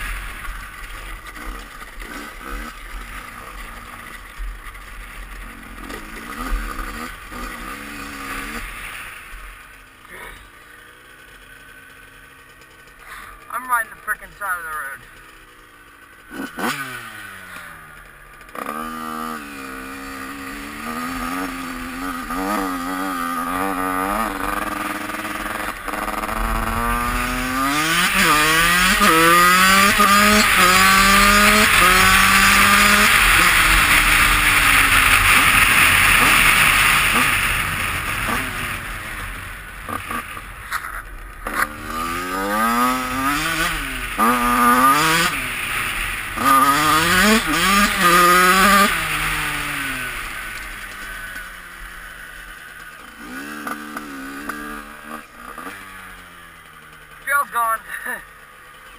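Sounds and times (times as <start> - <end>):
two-stroke engine revving: 0.0 - 58.9.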